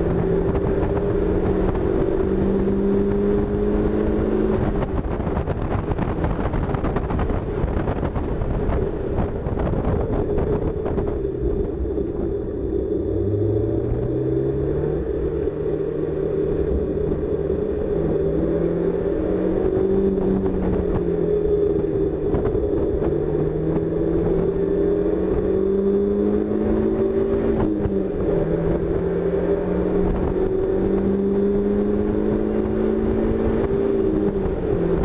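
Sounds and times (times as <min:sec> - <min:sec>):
car engine running hard: 0:00.0 - 0:35.0.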